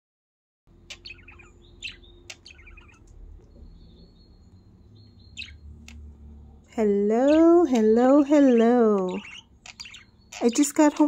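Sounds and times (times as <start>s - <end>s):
budgerigars chirping: 0.7s - 6.4s, 7.1s - 11.0s.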